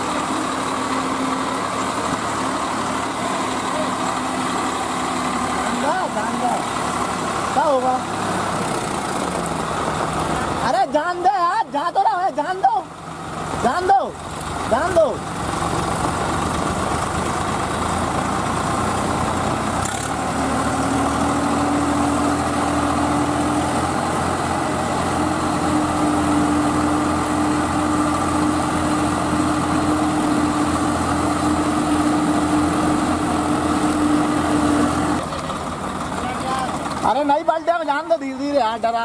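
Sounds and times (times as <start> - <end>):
held engine tone: 0.0 - 39.0
tractor engines droning under load: 0.0 - 39.0.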